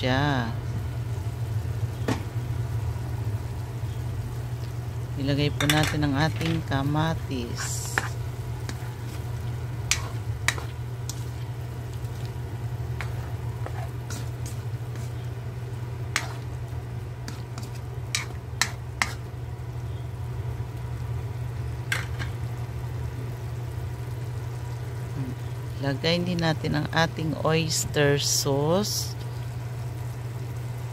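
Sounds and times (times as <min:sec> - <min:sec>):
meat frying in a wok: 0:00.0 - 0:30.9
steady low hum: 0:00.0 - 0:30.9.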